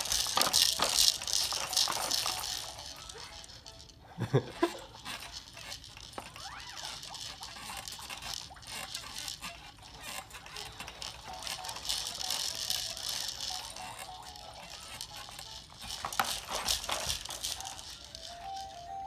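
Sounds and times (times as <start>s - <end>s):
light rattling and clicking: 0.0s - 19.0s.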